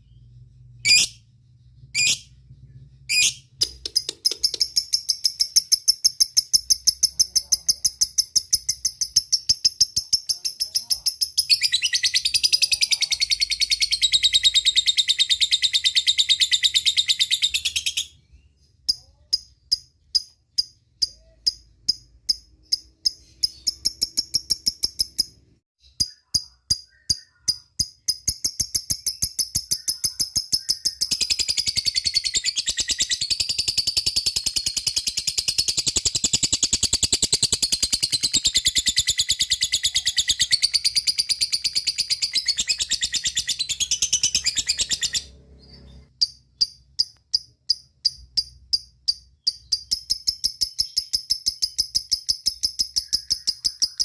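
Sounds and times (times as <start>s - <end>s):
lovebird chirping and trilling: 0.0s - 54.0s.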